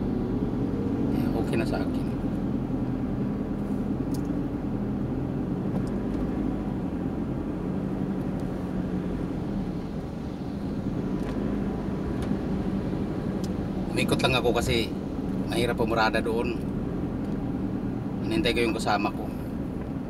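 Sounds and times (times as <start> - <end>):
van engine and tyre rumble: 0.0 - 20.0.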